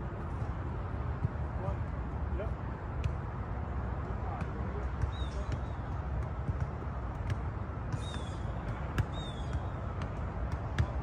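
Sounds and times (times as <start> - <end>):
balls kicked thuds: 0.0 - 1.9, 2.9 - 11.0.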